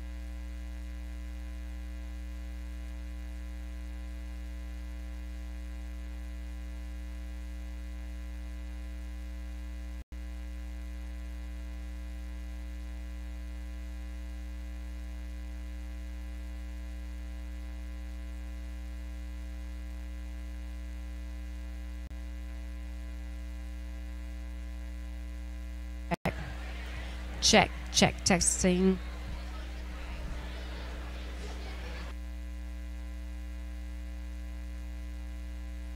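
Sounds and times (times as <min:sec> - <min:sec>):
electrical mains hum: 0:00.0 - 0:35.9.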